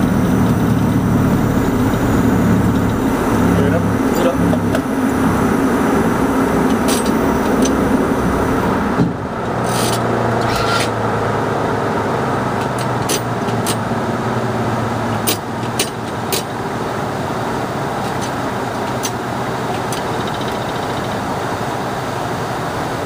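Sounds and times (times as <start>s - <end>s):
rushing airflow: 0.0s - 20.3s
low hum: 0.0s - 21.2s
jet engines droning: 0.0s - 23.0s.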